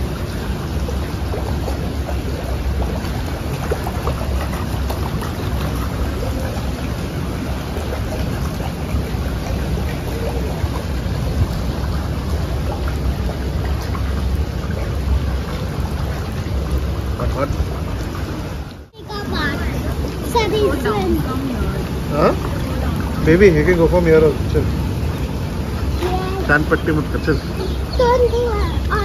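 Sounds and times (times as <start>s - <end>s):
rain falling on a pool: 0.0s - 29.0s.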